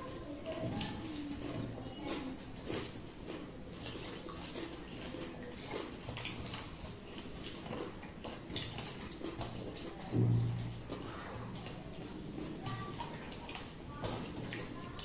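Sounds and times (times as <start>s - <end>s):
clicks of food mixed by hand: 0.0s - 15.0s
wet chewing and lip smacks: 0.5s - 15.0s.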